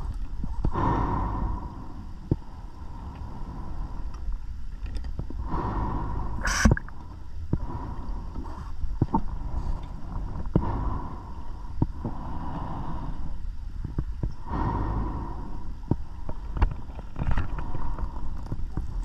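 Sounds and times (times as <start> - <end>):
steady low rumble: 0.0 - 19.0
diver breathing through regulator: 0.6 - 4.2, 5.4 - 19.0.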